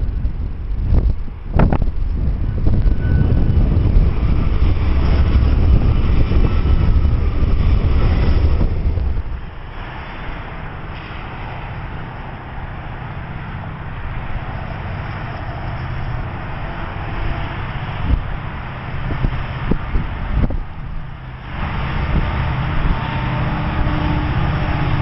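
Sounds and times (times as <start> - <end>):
distant diesel locomotive drone: 0.0 - 25.0
freight train locomotives rumbling: 0.0 - 25.0.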